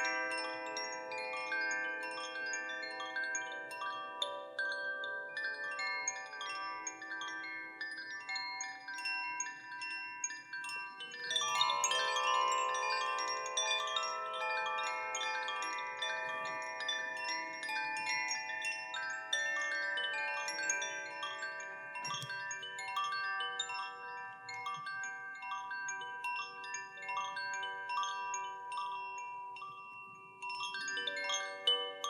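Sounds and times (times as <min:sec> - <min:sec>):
wind chimes ringing: 0:00.0 - 0:32.0.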